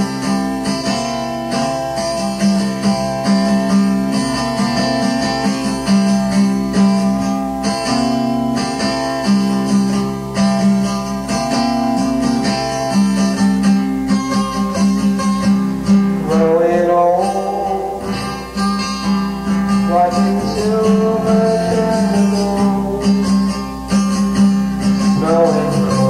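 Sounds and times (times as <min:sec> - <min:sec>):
guitar picking repeating pattern: 0:00.0 - 0:26.0.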